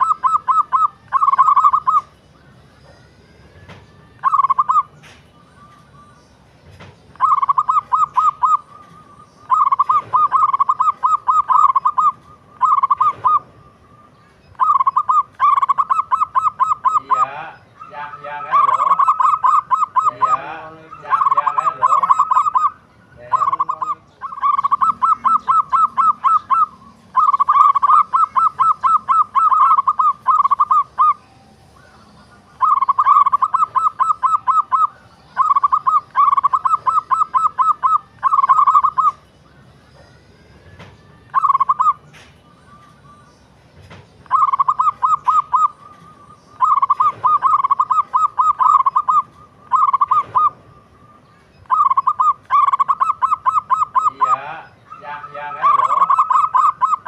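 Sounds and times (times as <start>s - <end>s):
dove cooing: 0.0s - 2.2s, 3.6s - 39.3s, 39.9s - 57.0s
small birds chirping: 0.0s - 57.0s.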